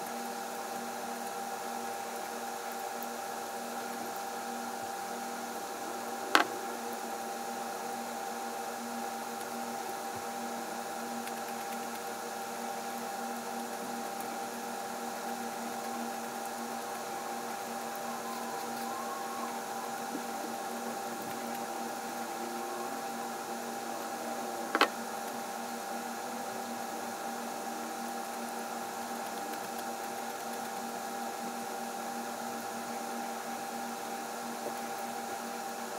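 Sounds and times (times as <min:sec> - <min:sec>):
electrical hum: 0:00.0 - 0:35.9.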